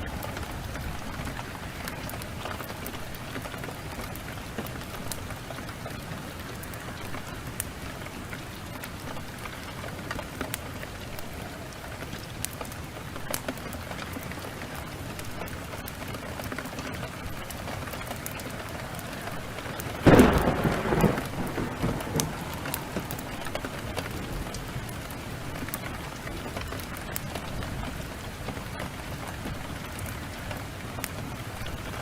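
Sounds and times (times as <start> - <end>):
heavy rain downpour: 0.0 - 32.0
wood fire crackling: 0.0 - 32.0.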